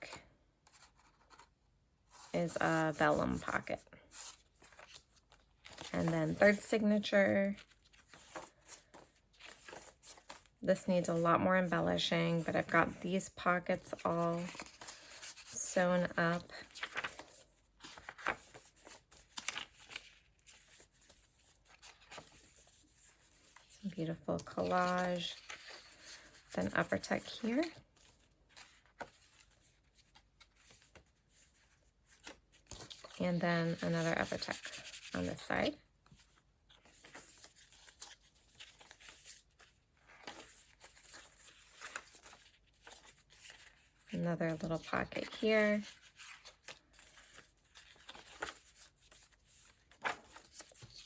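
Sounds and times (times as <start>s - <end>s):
paper pages rustling: 0.0s - 13.0s, 13.8s - 51.0s.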